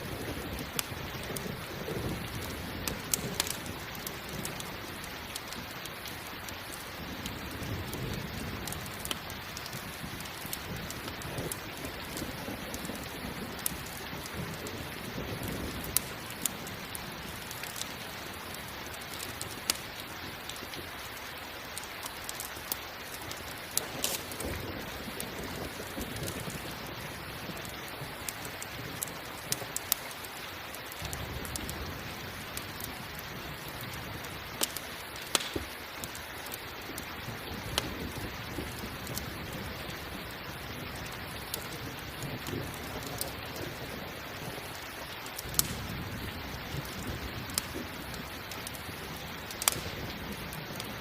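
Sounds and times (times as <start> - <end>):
campfire crackling: 0.0 - 51.0
steady rain: 0.0 - 51.0.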